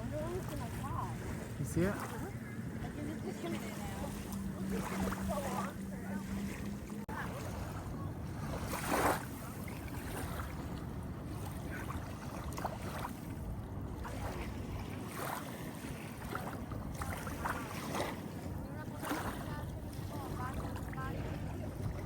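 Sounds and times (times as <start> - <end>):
water lapping in shallows: 0.0 - 22.0.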